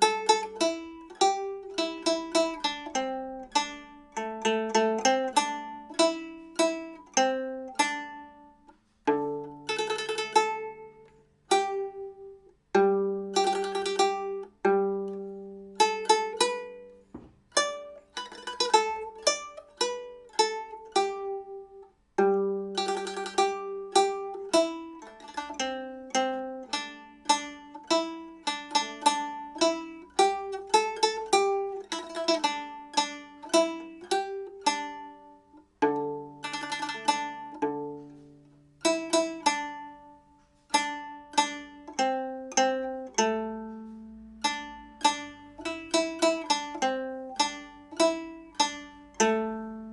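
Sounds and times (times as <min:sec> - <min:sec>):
plucked lute melody: 0:00.0 - 0:49.9.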